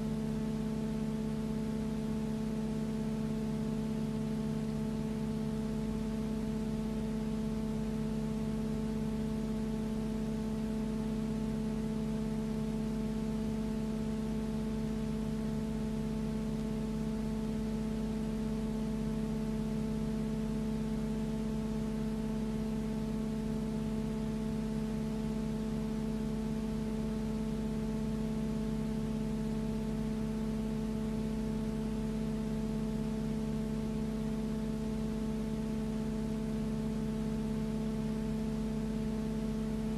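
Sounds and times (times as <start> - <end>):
steady multi-tone hum: 0.0 - 39.9.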